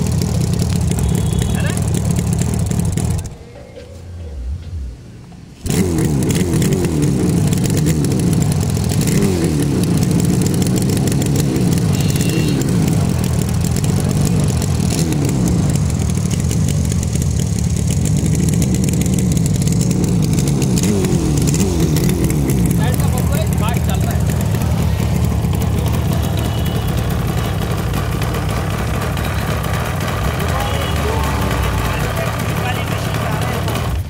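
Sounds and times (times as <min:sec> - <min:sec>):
two-stroke motorcycle engine revving: 0:00.0 - 0:03.4, 0:05.6 - 0:34.0.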